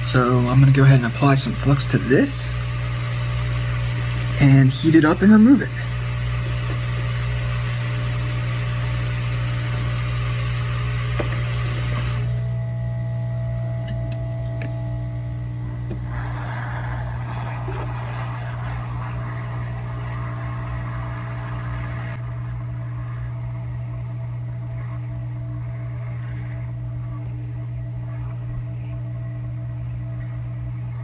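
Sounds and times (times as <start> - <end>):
hot air station hum and hiss: 0.0 - 12.9, 13.8 - 31.0.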